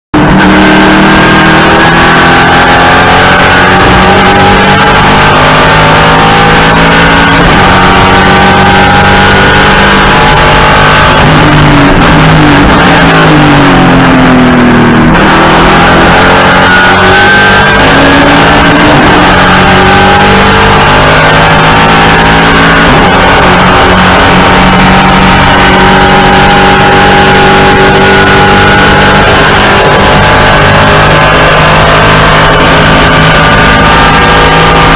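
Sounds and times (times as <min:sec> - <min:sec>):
race car engine through gear changes: 0:00.1 - 0:34.9.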